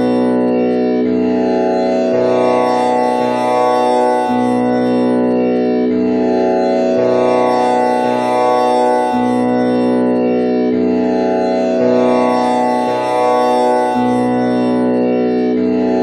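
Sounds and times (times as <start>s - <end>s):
tanpura drone: 0.0s - 16.0s.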